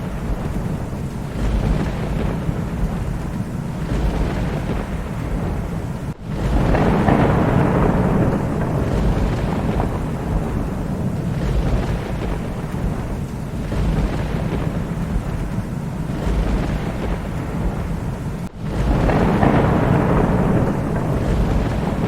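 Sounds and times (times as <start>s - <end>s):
steady rain: 0.0s - 22.0s
thunder rumbling: 0.0s - 22.0s.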